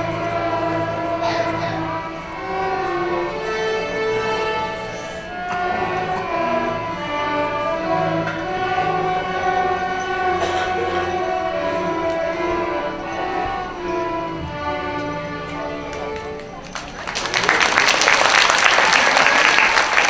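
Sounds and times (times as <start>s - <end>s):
ensemble singing held chords: 0.0s - 16.5s.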